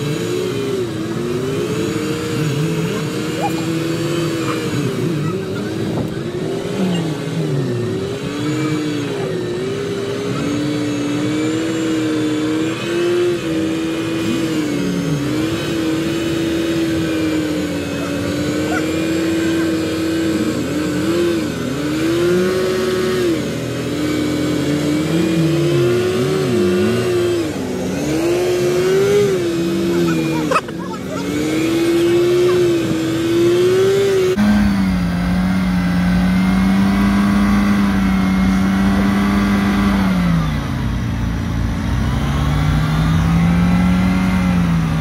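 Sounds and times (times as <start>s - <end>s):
engine revving: 0.0s - 45.0s.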